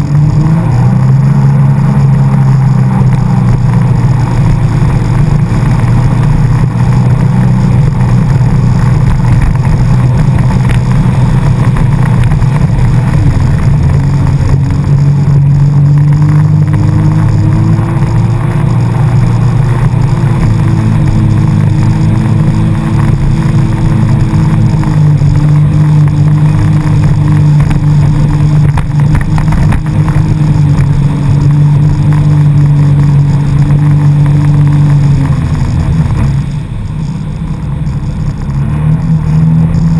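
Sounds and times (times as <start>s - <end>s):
jet ski engine running: 0.0s - 39.9s.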